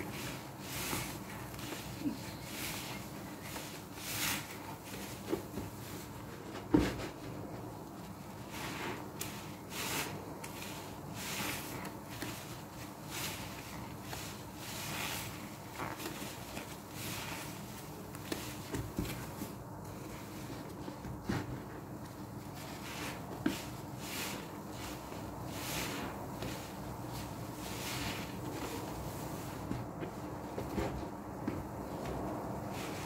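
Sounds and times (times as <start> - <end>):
wet squelching of foam sponges: 0.0 - 33.0.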